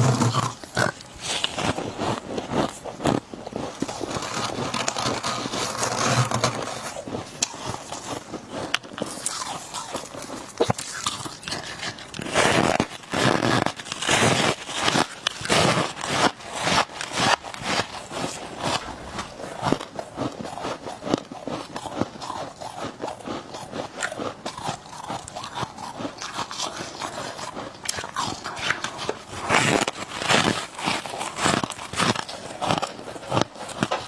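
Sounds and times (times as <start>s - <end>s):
chewing crunchy frost: 0.0s - 34.0s.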